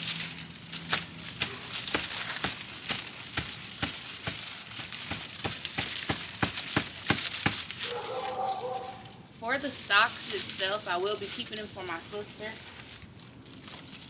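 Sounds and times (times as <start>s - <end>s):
dry corn husks rustling: 0.0s - 14.0s.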